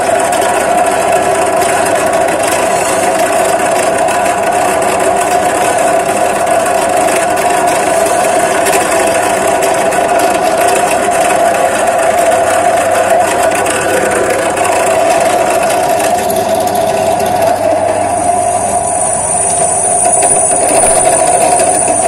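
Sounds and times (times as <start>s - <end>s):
drill press drilling steel: 0.0s - 22.0s.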